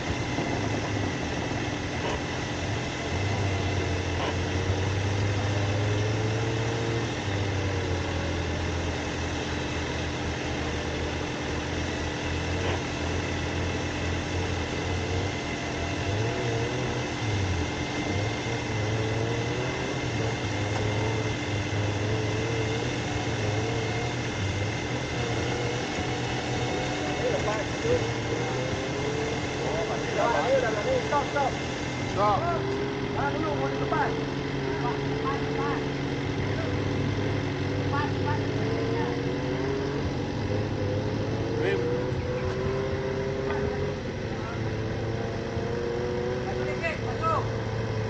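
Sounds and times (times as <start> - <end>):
engine running with low hum: 0.0 - 48.0
steady high whine: 0.0 - 48.0.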